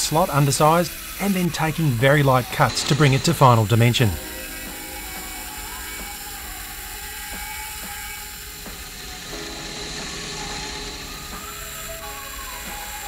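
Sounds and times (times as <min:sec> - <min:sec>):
end mill ticks and squeals: 0:00.0 - 0:13.0
milling machine whine: 0:00.0 - 0:13.0.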